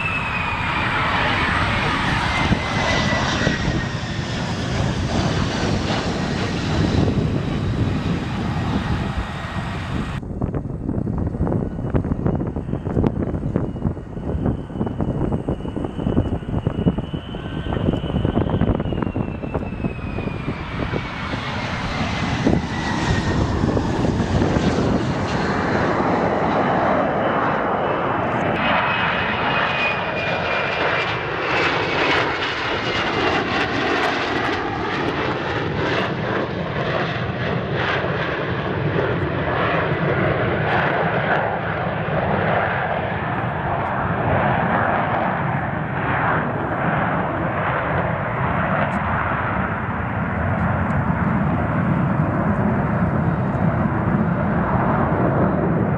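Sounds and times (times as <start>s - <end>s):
high jet whine: 0.0s - 55.9s
jet engine rumble: 0.0s - 55.9s.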